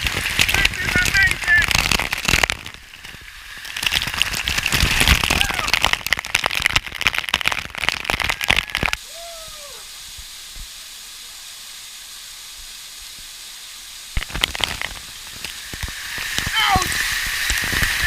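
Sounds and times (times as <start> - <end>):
rush of falling water: 0.0 - 18.0
waterfall splashing close: 0.0 - 18.0.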